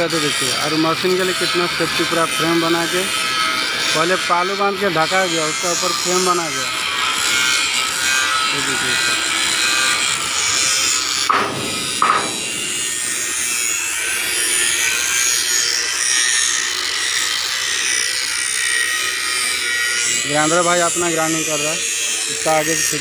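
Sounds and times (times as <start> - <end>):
angle grinder cutting metal: 0.0 - 23.0.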